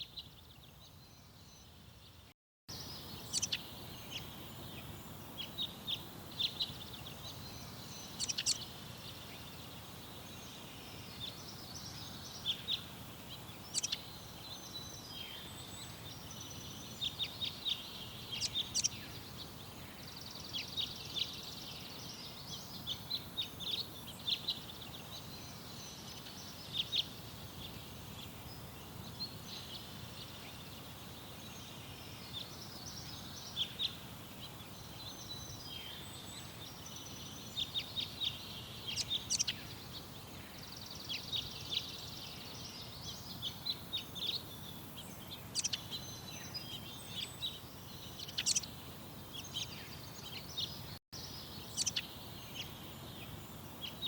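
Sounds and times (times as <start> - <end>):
birds chirping and twittering: 0.0 - 54.0
steady low background noise: 0.0 - 54.0.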